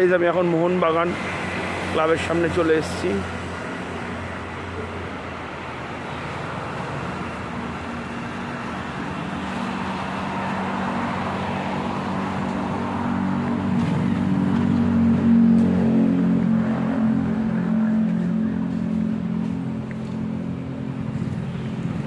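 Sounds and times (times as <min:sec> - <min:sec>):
road traffic engine hum: 0:00.0 - 0:22.0.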